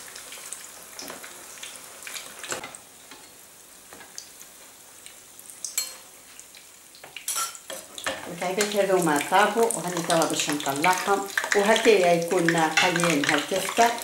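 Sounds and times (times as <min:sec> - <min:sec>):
patties sizzling in hot oil: 0:00.0 - 0:14.0.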